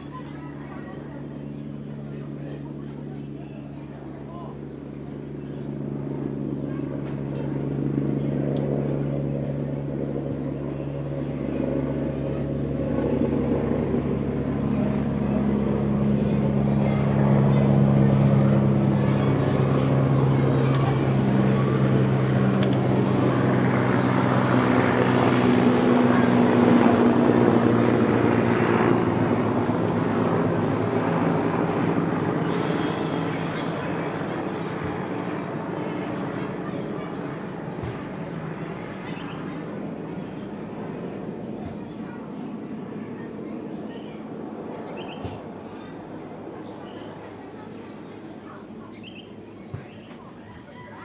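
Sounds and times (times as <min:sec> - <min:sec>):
helicopter engine and rotor: 0:00.0 - 0:51.0.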